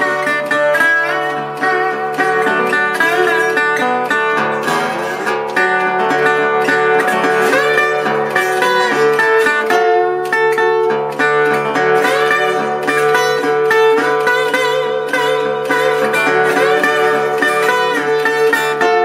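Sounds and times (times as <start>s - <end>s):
slide resonator guitar: 0.0s - 19.0s.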